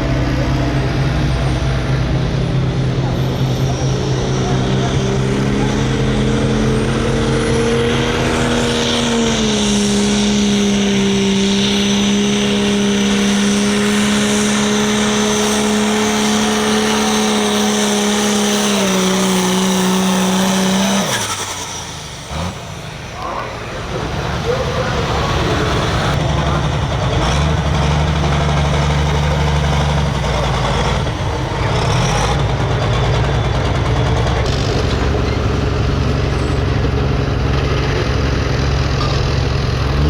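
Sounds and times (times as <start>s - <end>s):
diesel tractor engine at full throttle: 0.0s - 40.0s.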